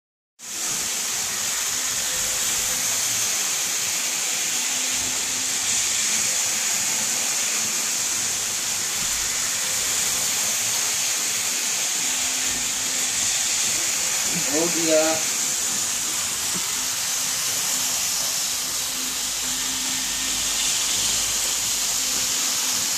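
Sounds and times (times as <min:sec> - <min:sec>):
model trains whirring on rails: 0:00.4 - 0:22.9.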